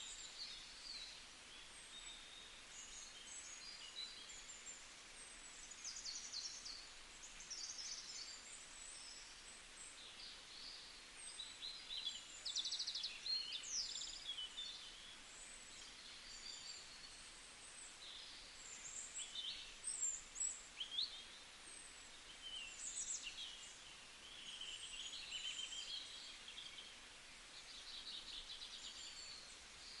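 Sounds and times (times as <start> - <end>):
faint steady hiss: 0.0 - 30.0
small birds chirping: 0.0 - 30.0.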